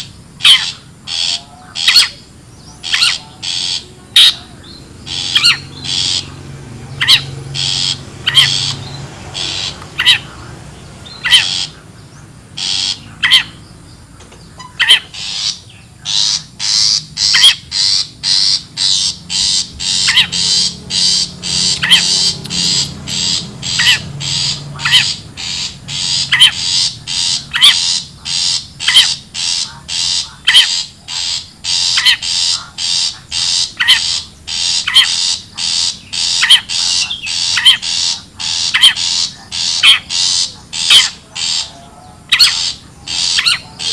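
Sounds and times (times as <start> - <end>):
bird harsh scolding calls: 0.0 - 43.9.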